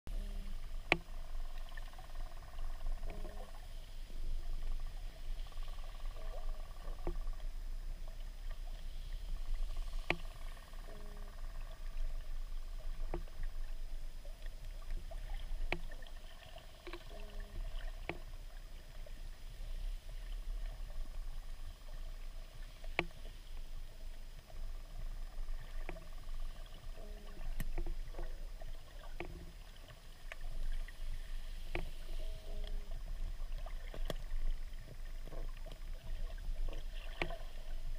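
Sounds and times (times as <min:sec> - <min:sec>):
muffled underwater rumble: 0:00.1 - 0:37.9.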